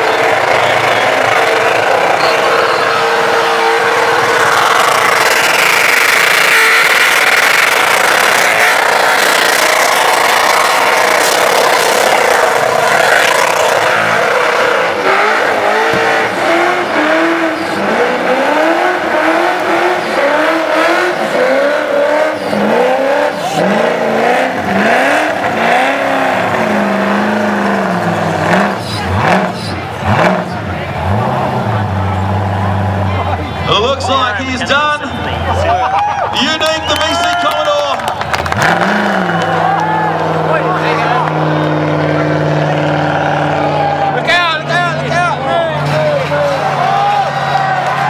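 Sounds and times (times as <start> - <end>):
car engine at high revs: 0.0 - 35.6, 37.8 - 48.0.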